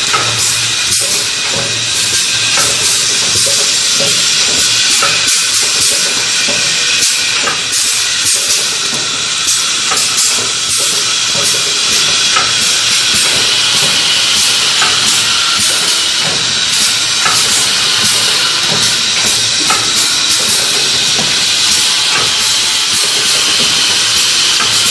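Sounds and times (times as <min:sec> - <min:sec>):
machine hiss: 0:00.0 - 0:24.9
mechanical clatter: 0:00.0 - 0:24.9.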